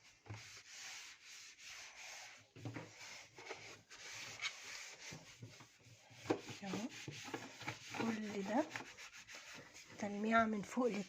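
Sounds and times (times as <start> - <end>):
cloth rubbing on casing: 0.0 - 11.0.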